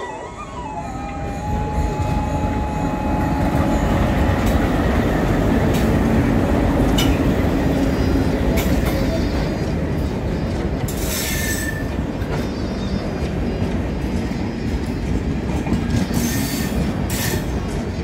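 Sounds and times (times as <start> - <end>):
locomotive rumble: 0.0 - 18.0
train coaches running by: 0.0 - 18.0.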